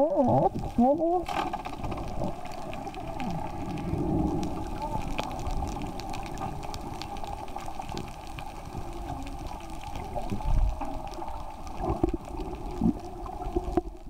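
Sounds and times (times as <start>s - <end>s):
gurgling water: 0.0s - 14.0s
steady underwater hum: 0.0s - 14.0s.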